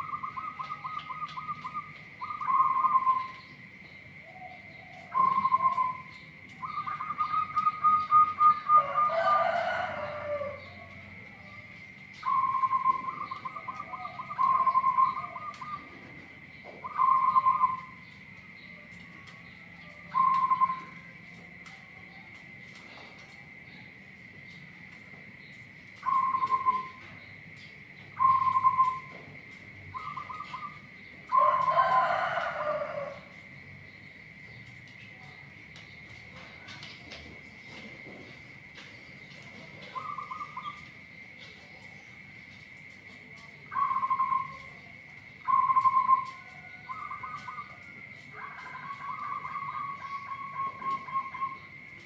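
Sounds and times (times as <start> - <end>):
dove cooing: 0.0 - 33.6, 36.0 - 42.3, 43.0 - 52.0.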